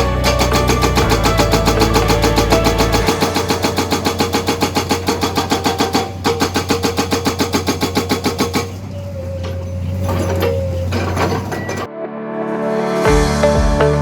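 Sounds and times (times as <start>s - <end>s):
hydraulic breaker hammer pounding: 0.0s - 11.8s
excavator engine running: 0.0s - 11.9s.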